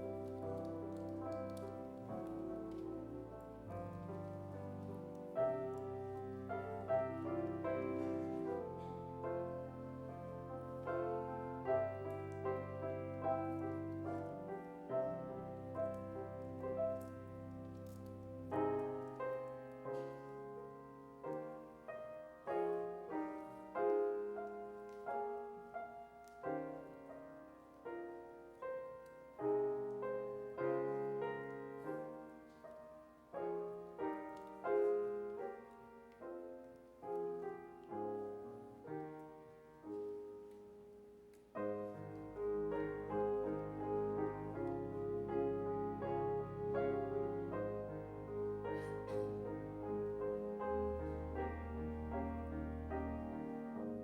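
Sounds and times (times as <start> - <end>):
gentle piano music: 0.0 - 54.0.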